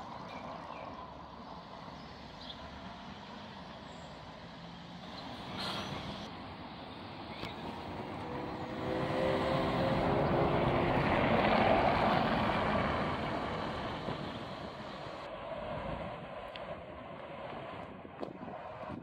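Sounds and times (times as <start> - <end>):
electric bus drive hum: 0.0 - 19.0
other buses: 0.0 - 19.0.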